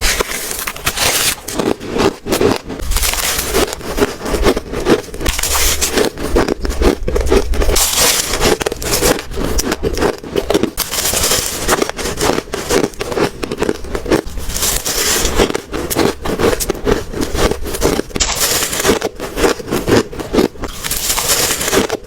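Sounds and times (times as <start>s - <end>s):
ice crunching while chewed: 0.0s - 22.0s.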